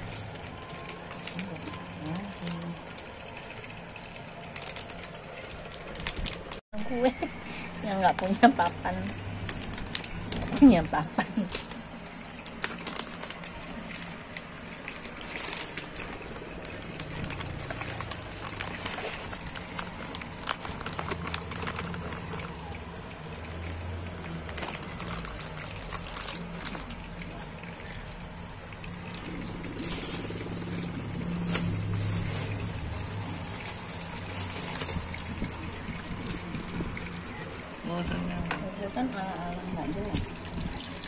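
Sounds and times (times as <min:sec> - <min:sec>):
plastic bag crinkling: 0:00.0 - 0:28.1, 0:29.1 - 0:37.5.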